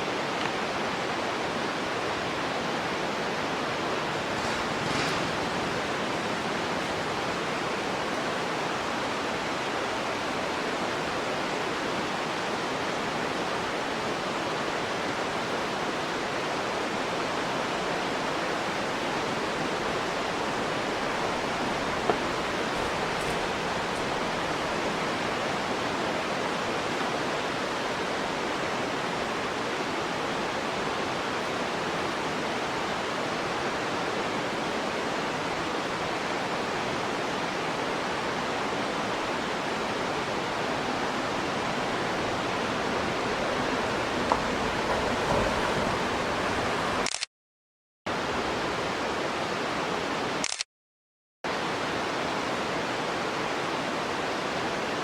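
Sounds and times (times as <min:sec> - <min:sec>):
stream water rushing: 0:00.0 - 0:47.1, 0:48.1 - 0:50.5, 0:51.5 - 0:55.0.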